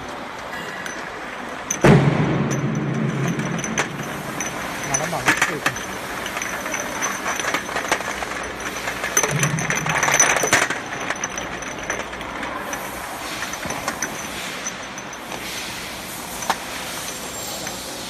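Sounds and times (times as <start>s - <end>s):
glass bottles clinking: 0.6s - 15.6s.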